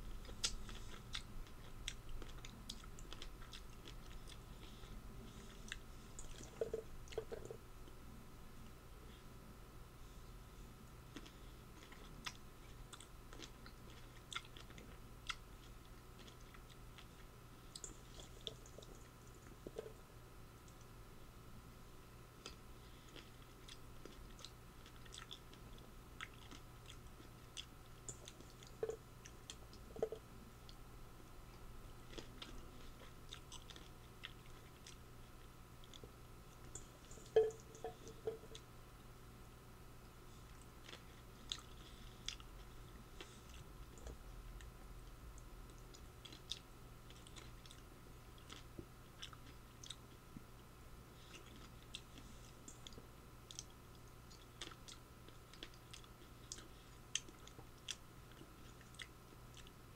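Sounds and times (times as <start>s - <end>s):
person chewing food: 0.1s - 8.0s, 11.1s - 20.0s, 22.4s - 30.8s, 31.5s - 38.7s, 40.0s - 50.2s, 51.2s - 59.8s.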